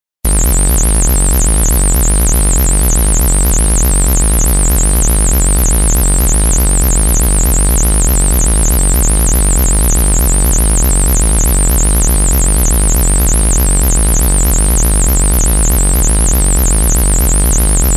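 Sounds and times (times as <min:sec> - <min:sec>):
low electronic buzz: 0:00.3 - 0:17.9.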